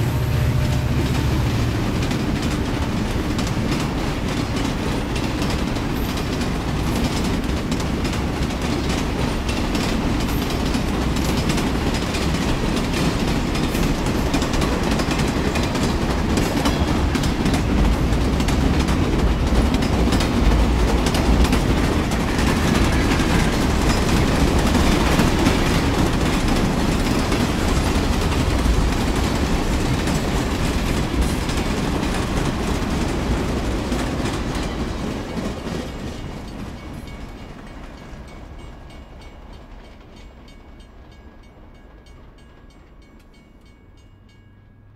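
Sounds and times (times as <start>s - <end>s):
train rumbling past: 0.0s - 44.9s
wheels clattering over rails: 0.6s - 37.7s.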